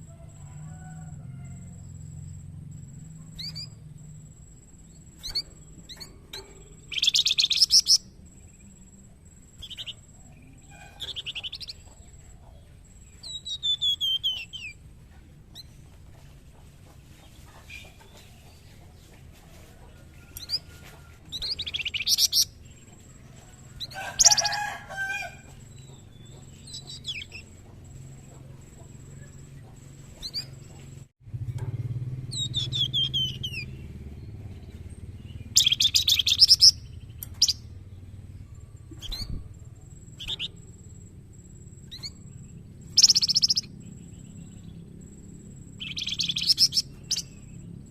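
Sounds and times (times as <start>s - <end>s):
songbird chirps and trills: 0.0s - 47.9s.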